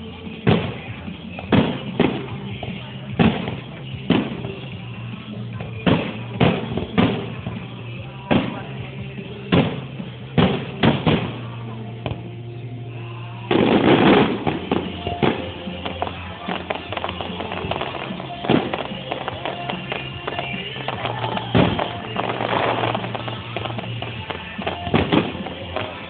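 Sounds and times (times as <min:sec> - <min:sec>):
music playing: 0:00.0 - 0:26.0
fireworks bangs: 0:00.1 - 0:26.0.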